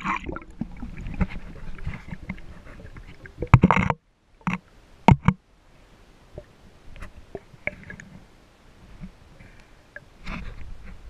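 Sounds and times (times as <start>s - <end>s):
underwater rush of water: 0.0s - 11.0s.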